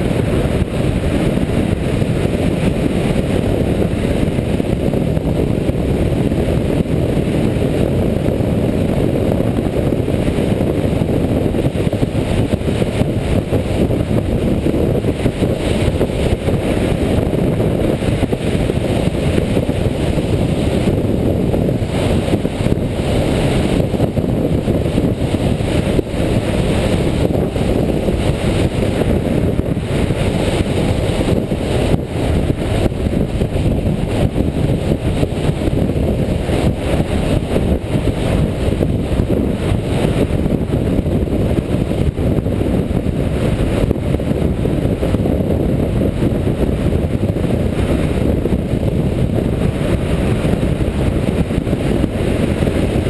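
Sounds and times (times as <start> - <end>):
motorcycle engine running: 0.0 - 53.0
wind rushing on microphone: 0.0 - 53.0.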